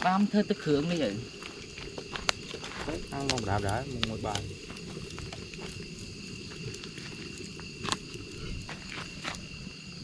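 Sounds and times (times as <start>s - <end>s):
campfire crackling and popping: 0.0s - 10.0s
insects chirping: 0.0s - 10.0s.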